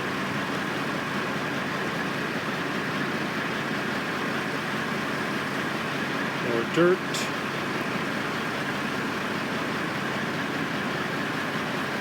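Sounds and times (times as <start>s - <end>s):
construction machinery engine: 0.0s - 12.0s.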